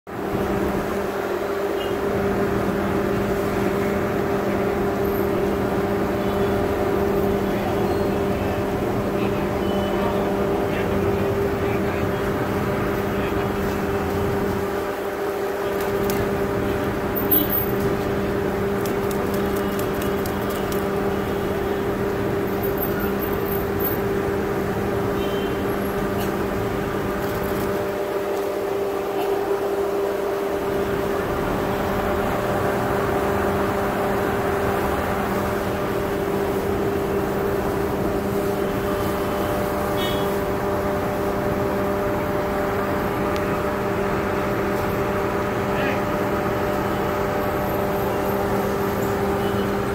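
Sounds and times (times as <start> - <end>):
steady mechanical hum: 0.1 - 49.9
street background noise: 0.1 - 49.9.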